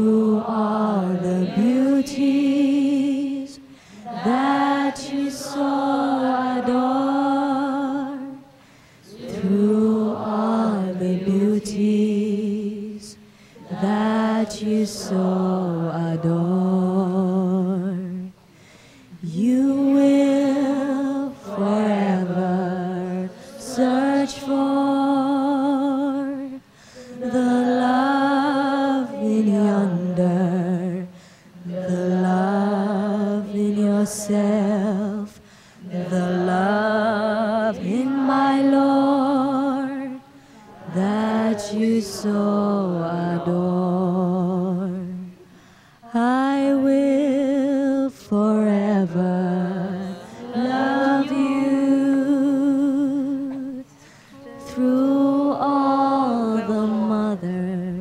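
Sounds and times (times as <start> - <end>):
woman singing unaccompanied: 0.0 - 18.4, 19.1 - 58.0.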